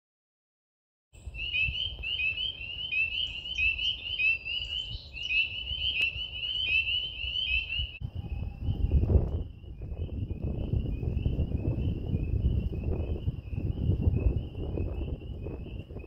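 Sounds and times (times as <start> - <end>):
frogs peeping: 1.2 - 16.0.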